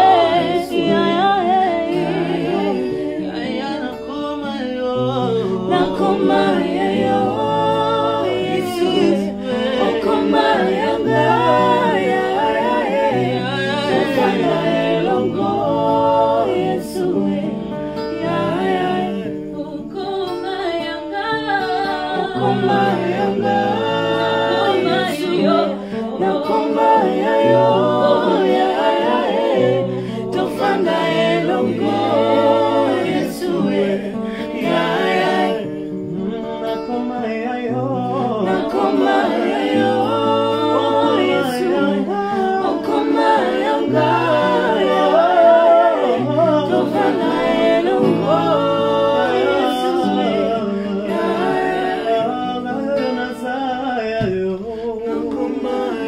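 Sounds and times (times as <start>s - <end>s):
group singing a cappella: 0.0s - 56.0s.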